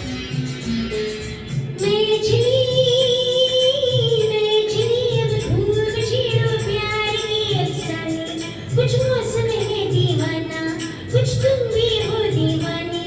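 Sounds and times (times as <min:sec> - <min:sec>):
backing track with drum beat: 0:00.0 - 0:13.0
shaker: 0:00.5 - 0:13.0
woman singing with vibrato: 0:01.8 - 0:13.0.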